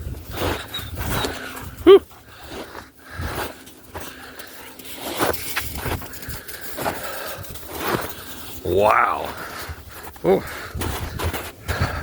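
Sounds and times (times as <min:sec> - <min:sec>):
footsteps crunching in slush: 0:00.0 - 0:12.0.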